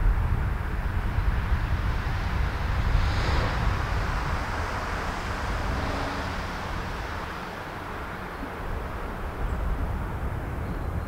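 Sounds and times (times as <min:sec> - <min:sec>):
broad rushing noise: 0:00.0 - 0:11.0
wind buffeting microphone: 0:00.0 - 0:11.0.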